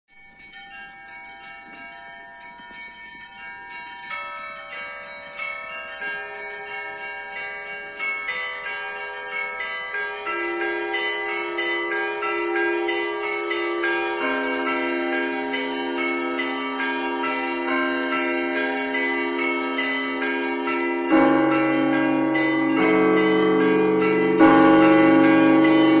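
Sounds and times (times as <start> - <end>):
lower bells ringing: 0.1 - 26.0
small high-pitched bells ringing: 0.1 - 26.0
deep loud bell: 0.2 - 26.0.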